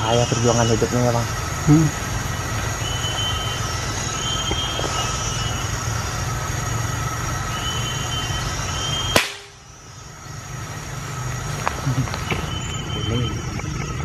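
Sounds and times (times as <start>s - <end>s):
forest insects droning: 0.0s - 14.0s
high whining tones: 0.0s - 14.0s
low hum: 0.0s - 14.0s.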